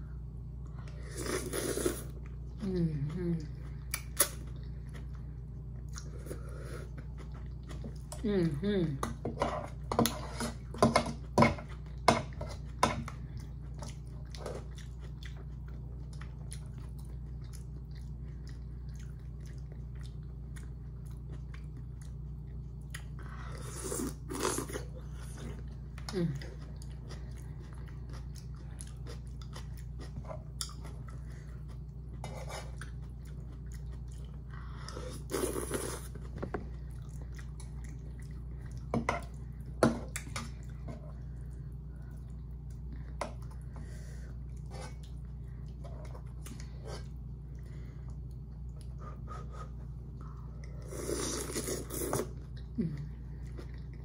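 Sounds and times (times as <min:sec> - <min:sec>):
steady low hum: 0:00.0 - 0:54.0
person chewing: 0:03.5 - 0:08.2, 0:09.2 - 0:54.0.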